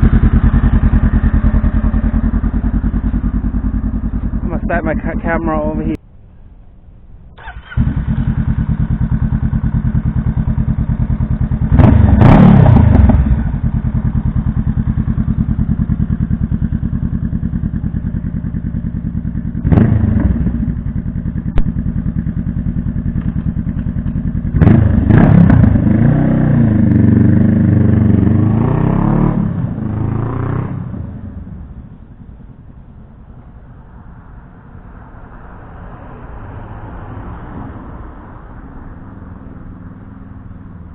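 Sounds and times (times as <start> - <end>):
motorcycle engine: 0.0 - 6.0, 7.1 - 37.5.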